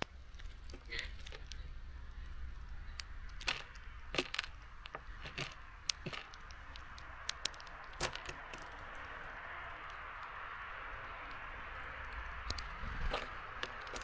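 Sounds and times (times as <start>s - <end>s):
birds pecking on feeder: 0.0s - 14.0s.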